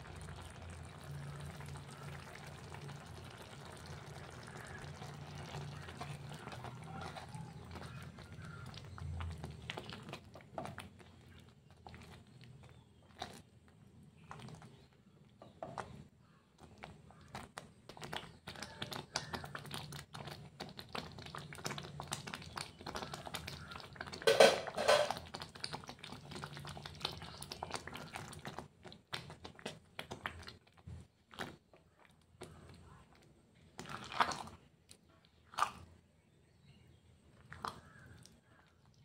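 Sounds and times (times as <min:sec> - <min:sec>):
spatula stirring and scraping: 0:00.0 - 0:36.0, 0:37.2 - 0:39.0
thick food bubbling and popping: 0:00.0 - 0:39.0.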